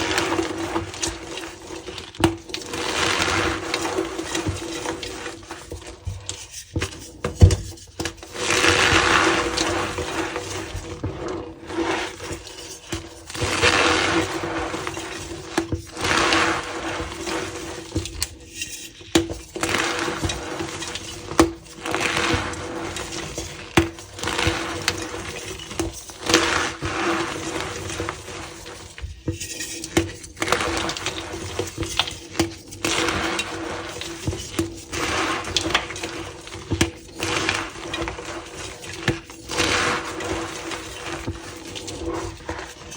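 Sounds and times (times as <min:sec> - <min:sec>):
chalk blocks crushing and crunching: 0:00.0 - 0:06.3, 0:08.2 - 0:18.3, 0:19.3 - 0:42.9.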